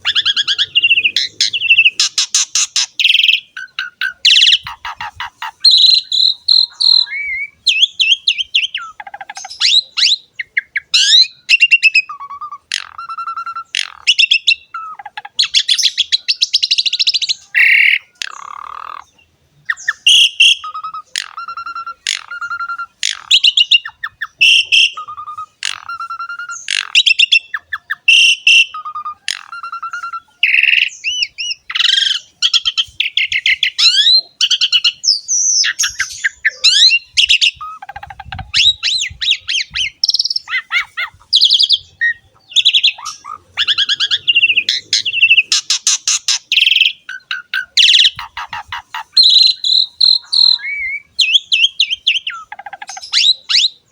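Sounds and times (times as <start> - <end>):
starling singing: 0.0 - 53.9.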